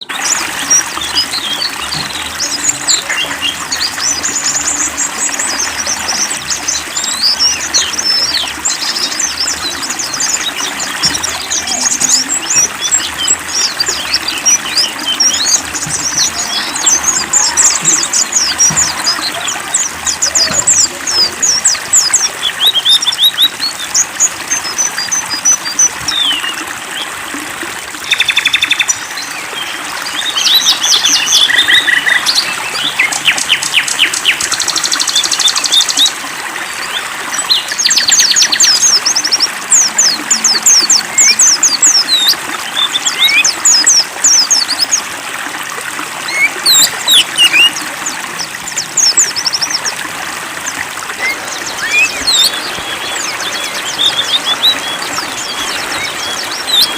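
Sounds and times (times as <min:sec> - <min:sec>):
running water trickling: 0:00.0 - 0:56.9
songbirds chirping and singing: 0:00.0 - 0:56.9.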